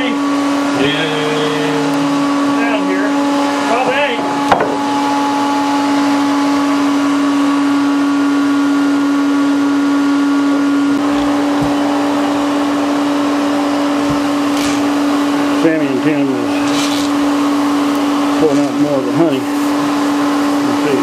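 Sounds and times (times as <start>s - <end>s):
vacuum motor humming: 0.0s - 21.0s.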